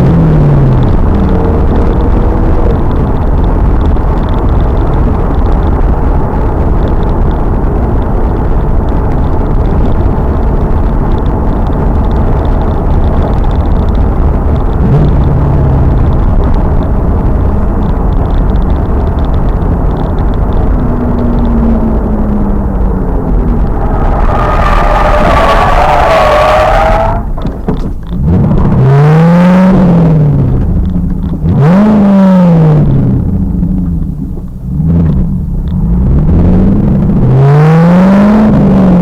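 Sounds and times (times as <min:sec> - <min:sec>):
faint car engine revving: 0:00.0 - 0:39.0
road rumble: 0:00.0 - 0:39.0.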